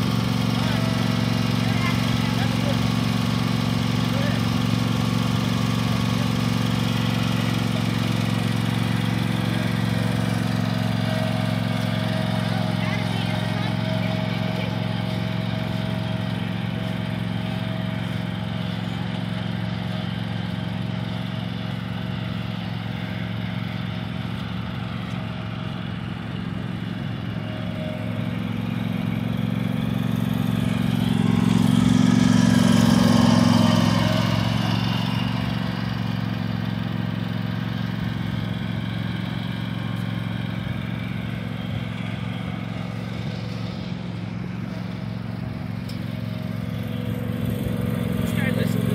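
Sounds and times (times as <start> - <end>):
riding lawn tractor engine: 0.0 - 48.9.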